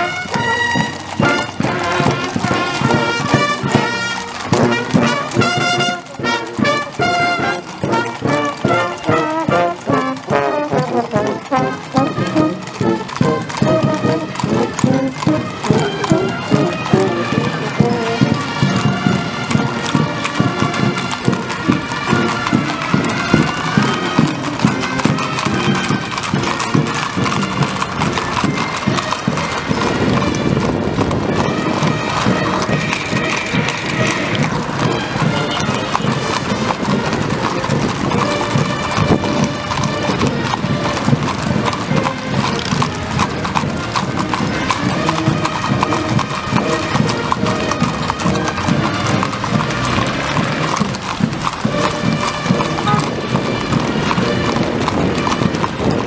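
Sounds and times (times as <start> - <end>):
horse hooves clattering on pavement: 0.0 - 56.0
military march fanfare: 0.0 - 56.0.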